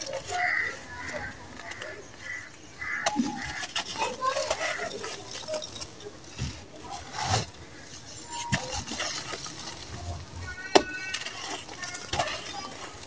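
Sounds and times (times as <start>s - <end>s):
gritty crunching by hand: 0.0s - 13.0s.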